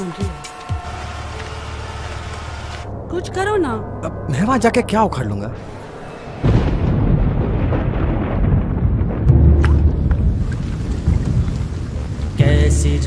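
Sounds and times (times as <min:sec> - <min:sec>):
thunder rumbling: 0:00.9 - 0:13.0.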